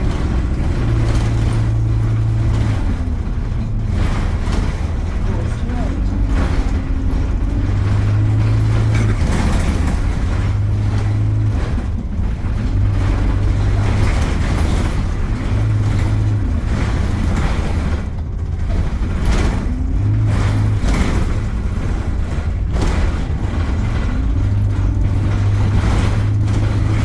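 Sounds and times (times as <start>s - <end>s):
bus engine hum: 0.0s - 27.0s.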